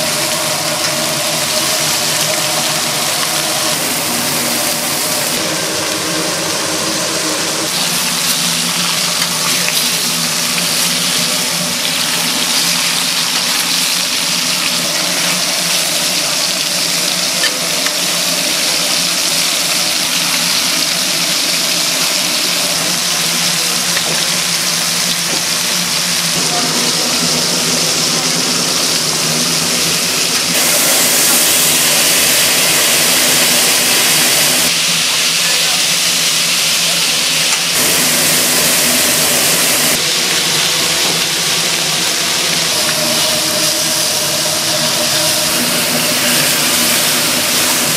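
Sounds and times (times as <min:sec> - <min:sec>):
fish sizzling on a grill: 0:07.7 - 0:47.9.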